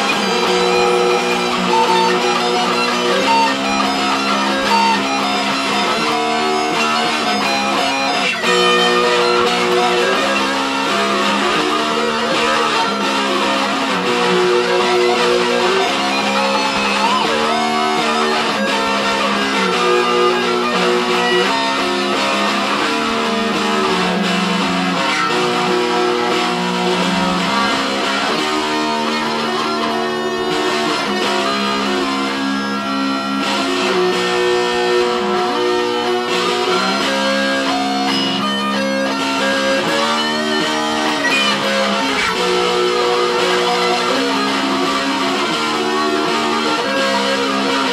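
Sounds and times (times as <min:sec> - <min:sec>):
acoustic guitar: 0:00.0 - 0:47.9
electric guitar: 0:00.0 - 0:47.9.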